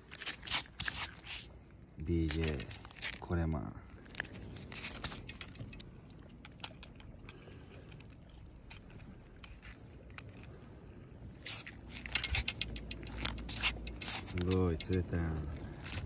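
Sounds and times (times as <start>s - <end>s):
net rustling: 0.0s - 10.7s, 11.3s - 16.0s.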